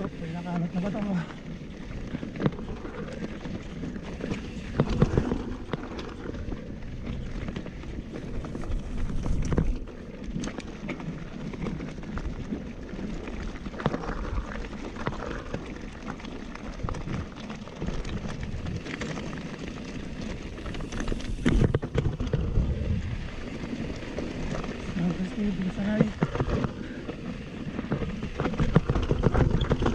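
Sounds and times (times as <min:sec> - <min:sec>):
bike rattles and knocks: 0:00.0 - 0:29.9
tyres crunching over stone: 0:01.2 - 0:29.9.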